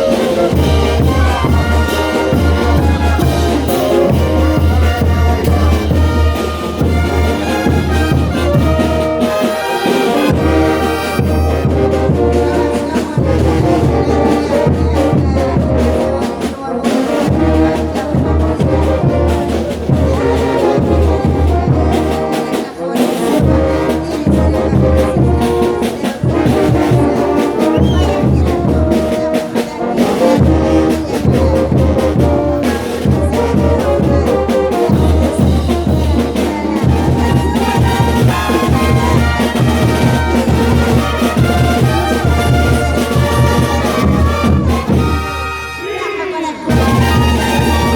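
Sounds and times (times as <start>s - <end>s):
brass band playing: 0.0s - 47.9s.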